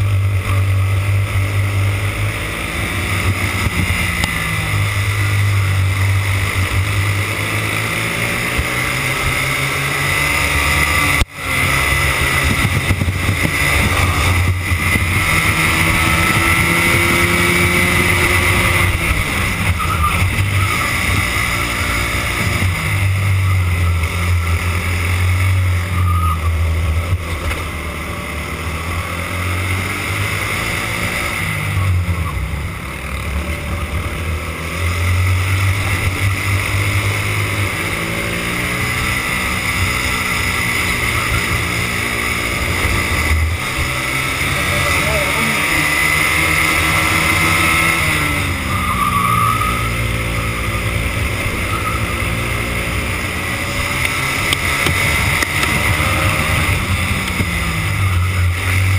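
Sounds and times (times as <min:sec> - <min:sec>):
racing kart engine revving: 0:00.0 - 0:58.9.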